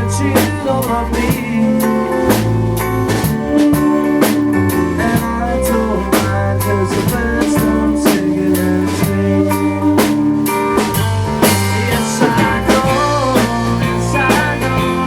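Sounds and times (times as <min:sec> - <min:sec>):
bass guitar: 0:00.0 - 0:15.0
drum kit beat: 0:00.0 - 0:15.0
electric guitar bending notes: 0:00.0 - 0:15.0.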